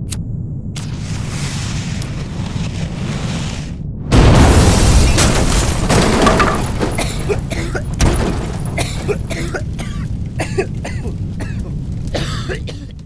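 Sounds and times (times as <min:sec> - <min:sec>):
firecrackers going off: 0:00.8 - 0:12.2.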